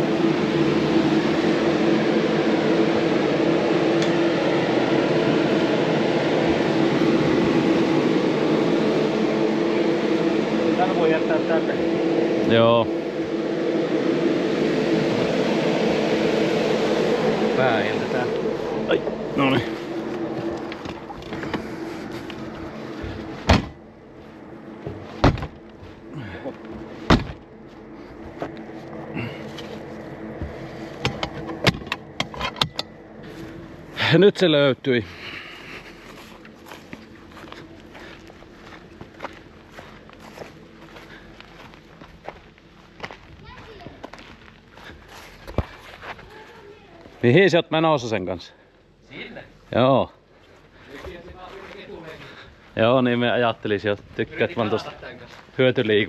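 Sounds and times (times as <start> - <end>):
motor humming: 0.0 - 47.2.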